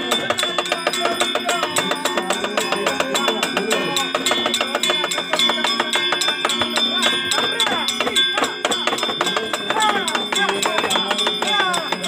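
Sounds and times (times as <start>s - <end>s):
metallophones ringing: 0.0s - 12.0s.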